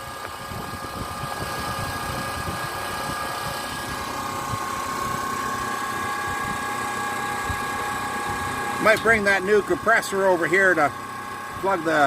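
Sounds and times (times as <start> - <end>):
generator running: 0.0 - 12.0.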